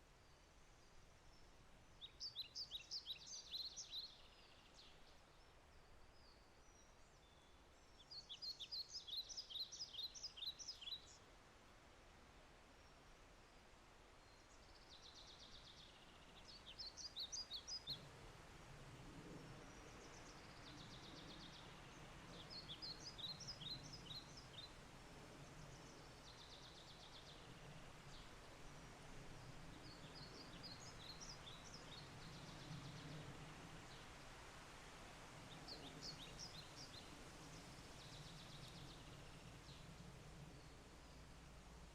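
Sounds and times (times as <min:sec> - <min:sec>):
light rain hiss: 0:00.0 - 0:41.9
songbird singing trills and chirps: 0:02.0 - 0:11.2, 0:14.2 - 0:18.1, 0:19.4 - 0:24.8, 0:25.4 - 0:34.1, 0:35.5 - 0:41.9.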